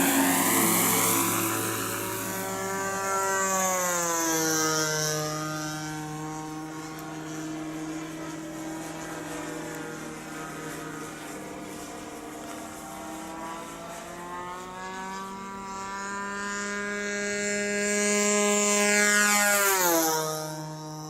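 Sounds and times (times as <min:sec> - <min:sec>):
model airplane motor and propeller: 0:00.0 - 0:21.0.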